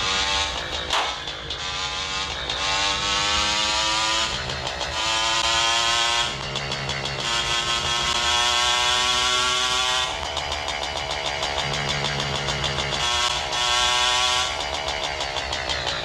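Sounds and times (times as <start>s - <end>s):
motorcycle engine accelerating: 0.0s - 16.0s
road noise: 0.0s - 16.0s.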